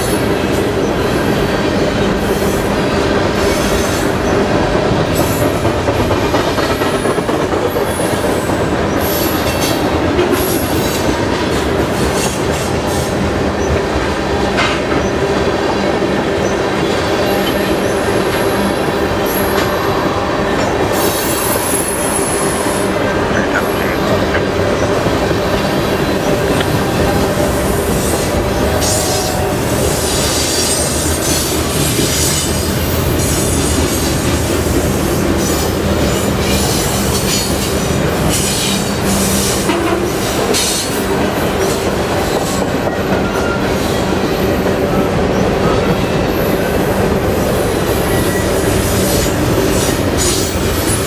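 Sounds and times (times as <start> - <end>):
train wheels rumbling and rattling: 0.0 - 51.0.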